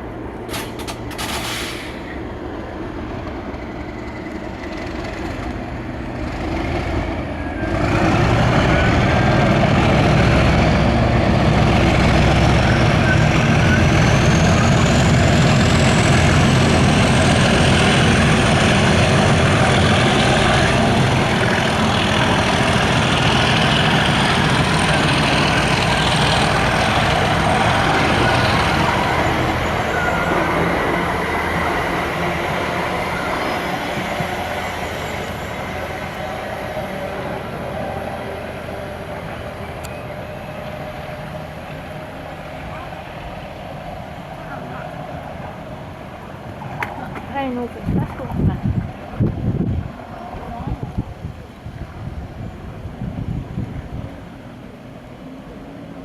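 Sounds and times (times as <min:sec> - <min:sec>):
diesel locomotive engine passing: 0:00.0 - 0:56.0.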